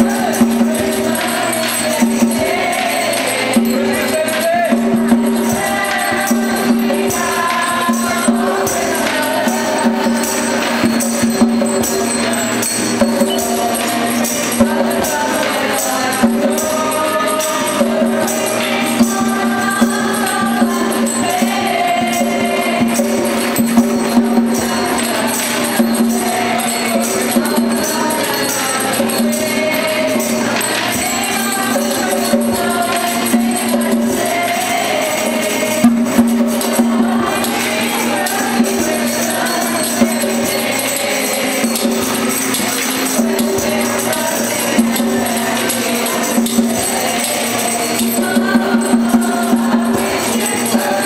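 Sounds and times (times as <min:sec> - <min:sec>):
group singing in unison: 0:00.0 - 0:51.0
tambourine struck on the beat: 0:00.0 - 0:51.0.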